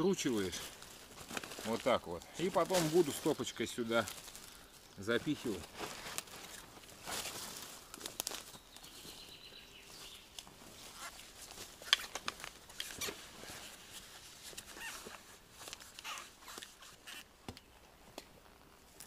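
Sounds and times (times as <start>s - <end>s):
dry bark rustling and crackling: 0.0s - 19.0s.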